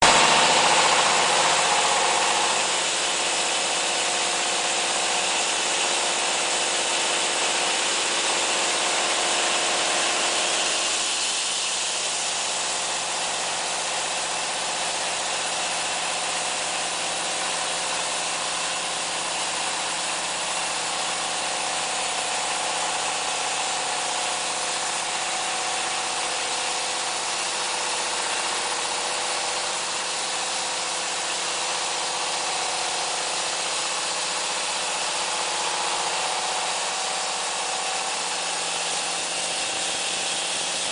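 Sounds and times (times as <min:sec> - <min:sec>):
band saw running: 0:00.0 - 0:40.9
diesel engine running: 0:00.0 - 0:40.9.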